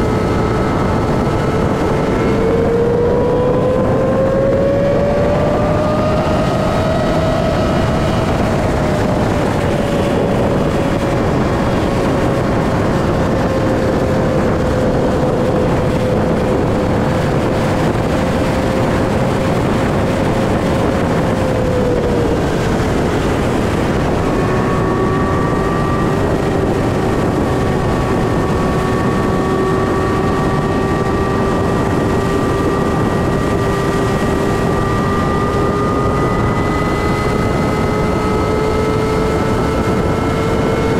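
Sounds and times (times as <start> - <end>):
motorcycle engine: 0.0 - 40.9
wind rush on microphone: 0.0 - 40.9.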